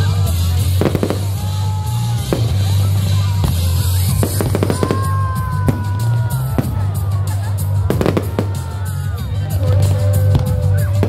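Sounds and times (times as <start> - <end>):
background music: 0.0 - 11.0
fireworks bursting with sharp bangs: 0.0 - 11.0.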